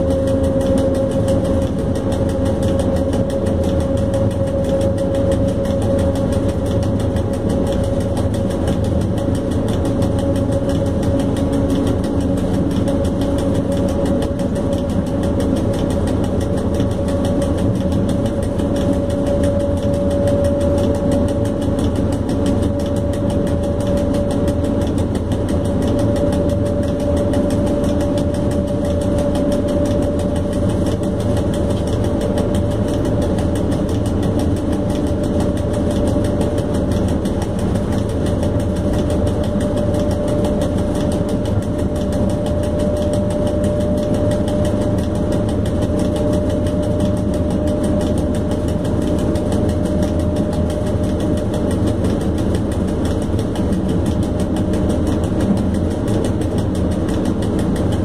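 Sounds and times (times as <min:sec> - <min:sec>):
steady whine: 0:00.0 - 0:58.0.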